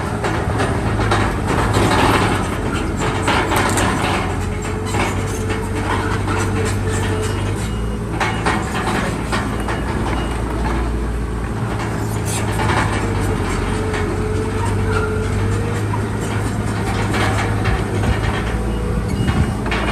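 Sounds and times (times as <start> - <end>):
bulldozer diesel engine running: 0.0 - 19.9
steel tracks clanking: 0.0 - 19.9.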